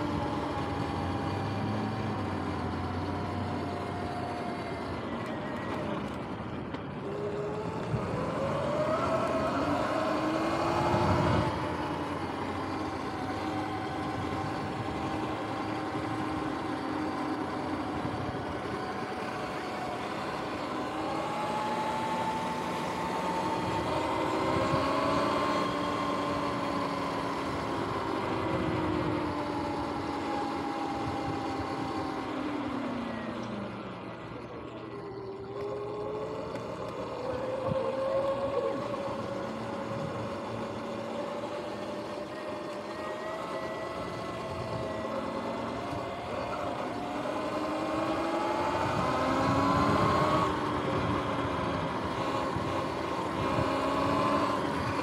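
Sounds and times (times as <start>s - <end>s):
electric motor whining: 0.0s - 55.0s
wind and tyre noise: 0.0s - 55.0s.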